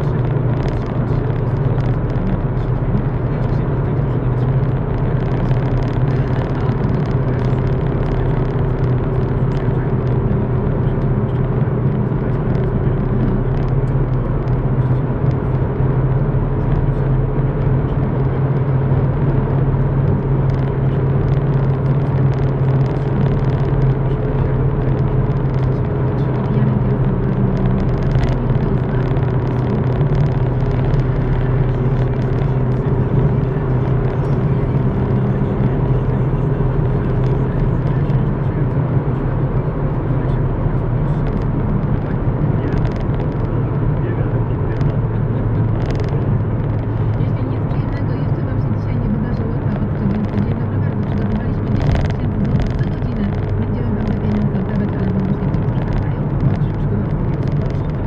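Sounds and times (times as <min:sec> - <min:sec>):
car engine hum: 0:00.0 - 0:58.0
tyre and road rumble: 0:00.0 - 0:58.0.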